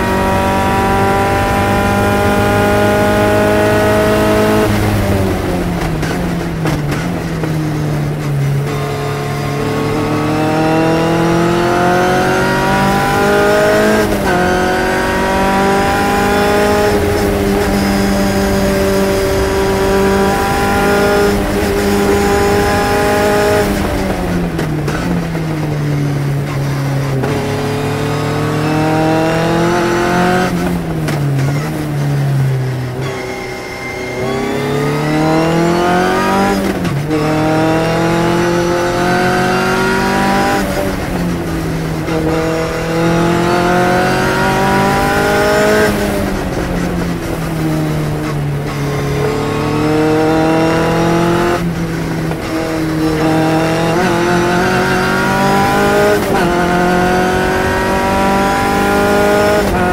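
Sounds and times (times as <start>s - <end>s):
racing car engine shifting gears: 0.0s - 59.9s.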